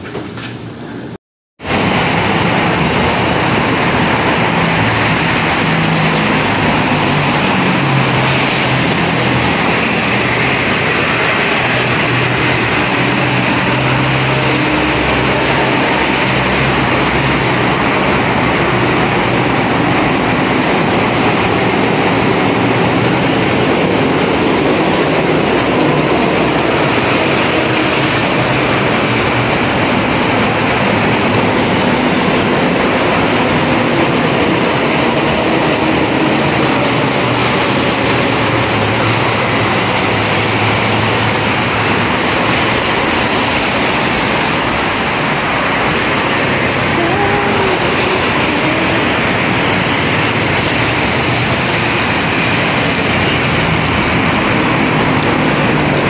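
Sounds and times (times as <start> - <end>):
traffic on wet road: 0.0 - 56.0
rain: 1.6 - 56.0.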